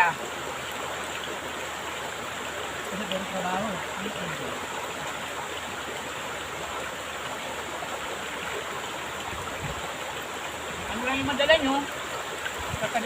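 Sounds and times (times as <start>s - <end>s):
flowing stream: 0.0s - 13.0s.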